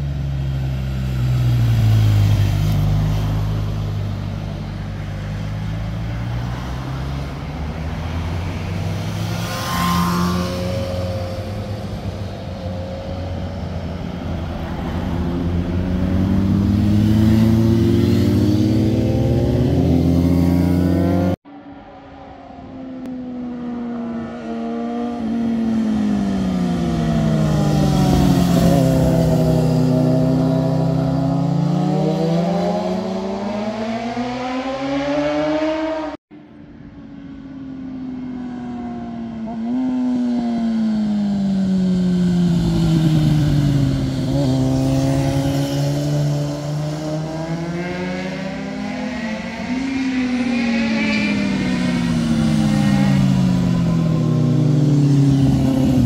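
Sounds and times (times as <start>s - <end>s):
motorcycle engines revving: 0.0s - 36.2s, 37.9s - 56.0s.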